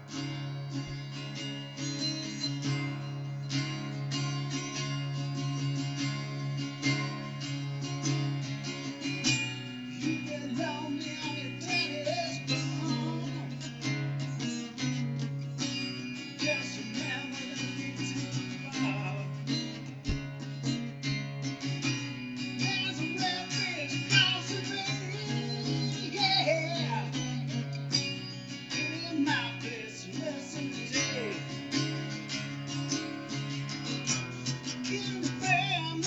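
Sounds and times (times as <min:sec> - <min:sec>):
acoustic guitar picked and strummed: 0:00.0 - 0:36.0.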